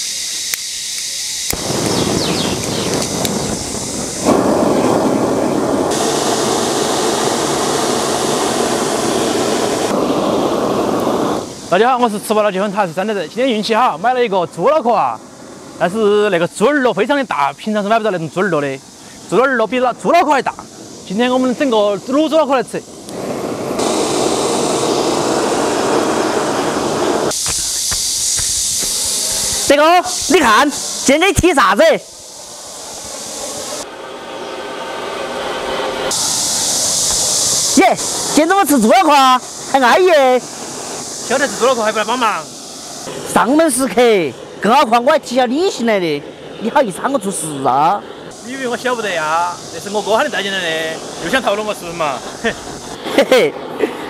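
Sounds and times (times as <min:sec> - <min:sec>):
steady high hiss: 0:00.0 - 0:54.0
gas blowtorch roaring: 0:00.5 - 0:14.0, 0:18.7 - 0:54.0.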